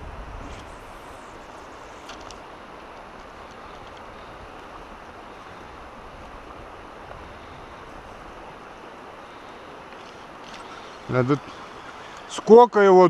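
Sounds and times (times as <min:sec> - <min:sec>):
river rushing over shallows: 0:00.0 - 0:13.0.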